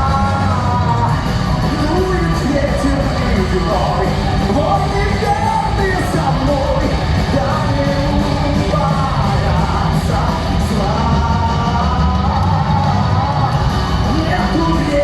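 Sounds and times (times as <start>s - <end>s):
metal band playing live: 0.0s - 15.0s
person singing: 0.0s - 15.0s.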